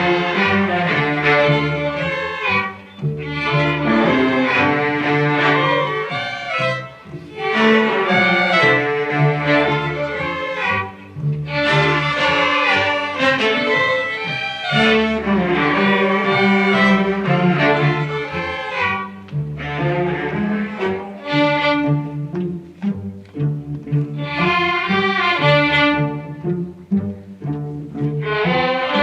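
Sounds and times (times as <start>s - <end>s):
string orchestra playing: 0.0s - 29.0s.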